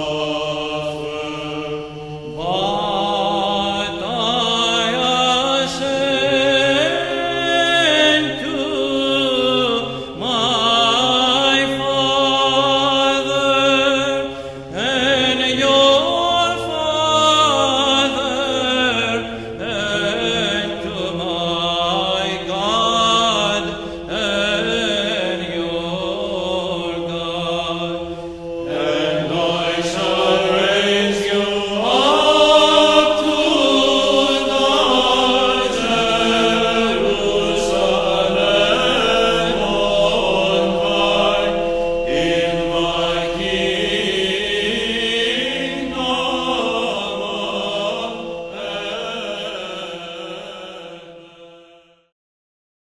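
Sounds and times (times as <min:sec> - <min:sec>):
held drone note: 0:00.0 - 0:50.5
chant melody: 0:00.0 - 0:51.7.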